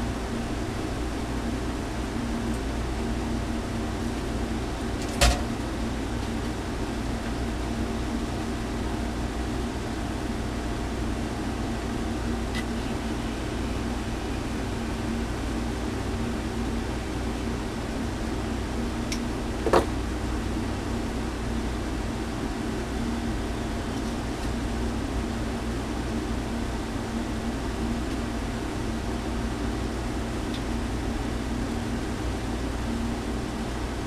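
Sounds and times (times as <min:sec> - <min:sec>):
electrical hum with fan noise: 0:00.0 - 0:34.0.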